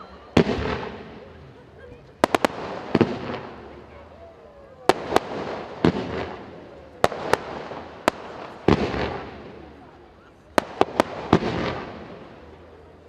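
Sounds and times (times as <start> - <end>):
fireworks bangs with crackle: 0.0 - 4.0, 4.8 - 13.0.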